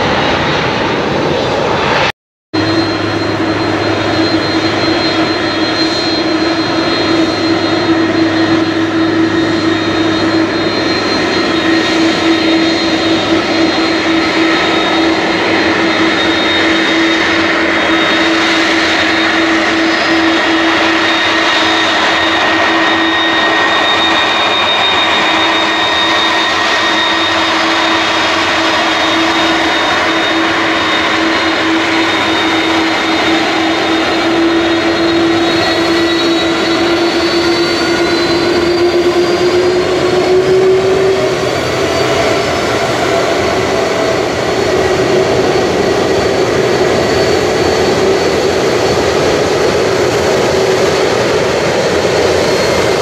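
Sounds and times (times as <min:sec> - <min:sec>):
jet engine whine: 0:00.0 - 0:53.0
high whistling tones: 0:02.6 - 0:53.0.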